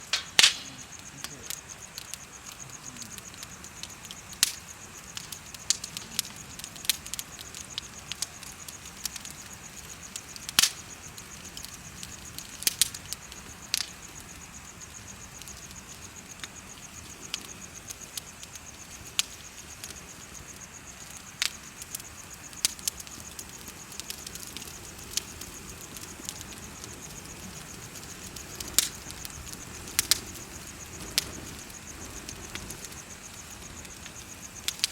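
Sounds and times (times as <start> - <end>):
bonfire crackling and popping: 0.0 - 34.9
insects trilling: 0.0 - 34.9.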